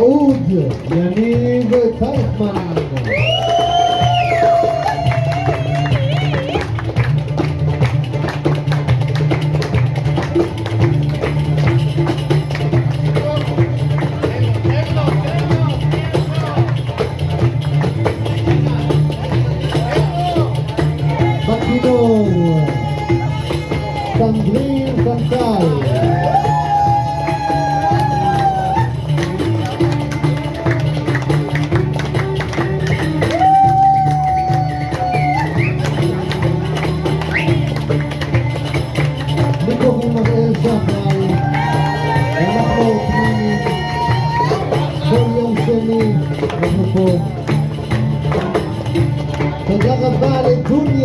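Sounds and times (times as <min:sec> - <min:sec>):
hand drum and tambourine beat: 0:00.0 - 0:51.0.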